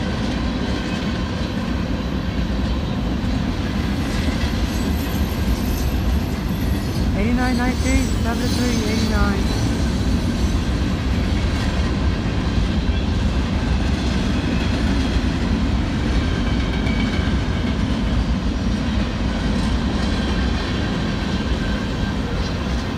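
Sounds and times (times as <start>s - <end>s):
freight train rumbling past: 0.0s - 22.9s.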